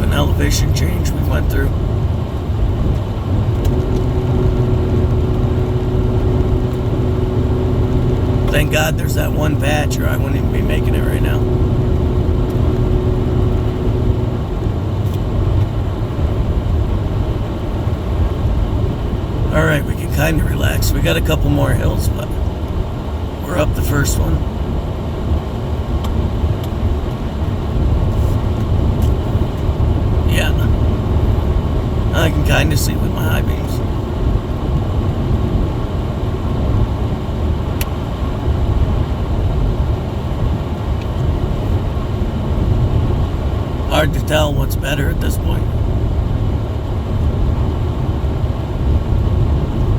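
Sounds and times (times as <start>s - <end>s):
car engine rumble: 0.0s - 49.9s
faint steady hum: 0.0s - 49.9s.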